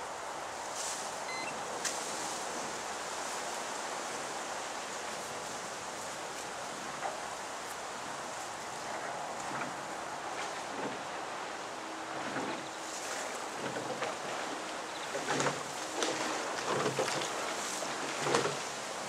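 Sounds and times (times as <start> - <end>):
wind rustling through reeds: 0.0 - 19.0.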